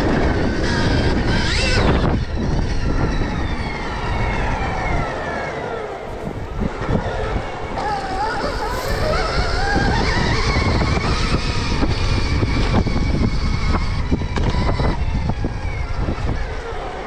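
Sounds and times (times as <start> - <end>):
electric motorbike motor whining: 0.0 - 17.0.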